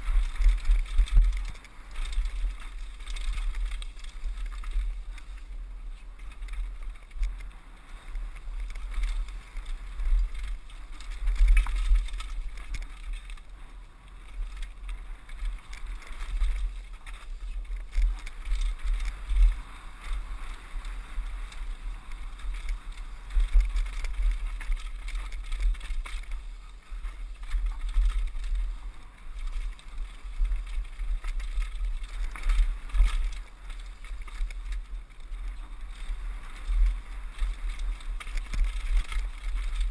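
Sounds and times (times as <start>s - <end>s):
bike rattling over bumps: 0.0s - 39.9s
bike tyres rolling over dirt: 0.0s - 39.9s
wind buffeting microphone: 0.0s - 39.9s.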